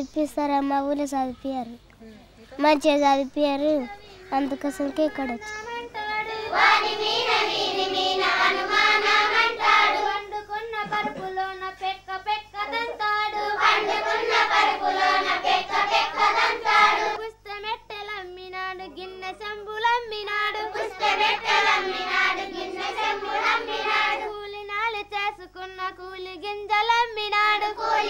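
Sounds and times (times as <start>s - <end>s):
girls singing together: 5.2s - 28.0s.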